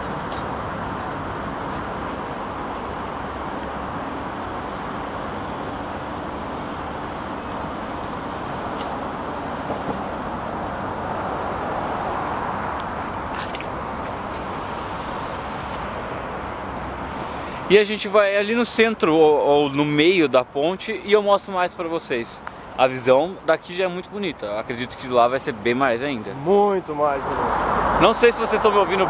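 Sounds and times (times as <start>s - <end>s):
cars passing on a bridge: 0.0s - 29.0s.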